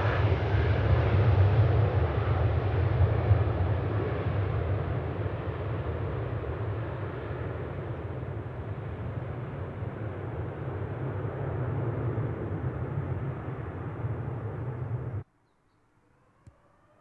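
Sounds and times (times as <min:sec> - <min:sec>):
jet engines rumbling: 0:00.0 - 0:15.3.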